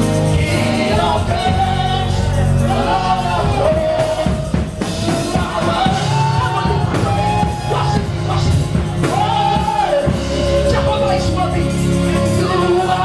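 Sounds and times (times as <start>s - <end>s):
bass: 0.0s - 13.0s
drum kit: 0.0s - 13.0s
person singing gospel melody: 0.0s - 13.0s.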